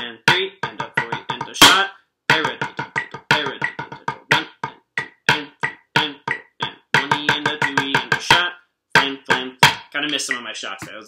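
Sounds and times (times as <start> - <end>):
drumsticks striking practice pad: 0.0 - 11.0.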